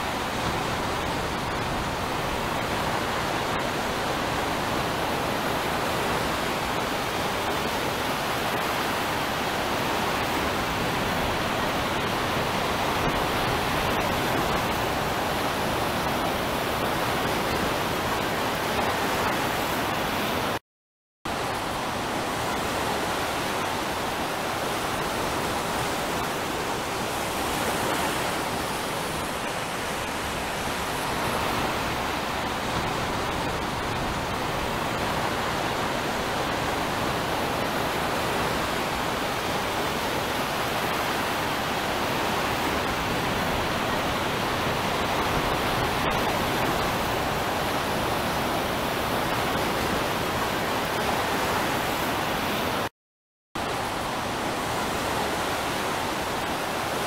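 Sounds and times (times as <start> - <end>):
ocean surf wash: 0.0 - 20.6, 21.3 - 52.9, 53.6 - 57.0.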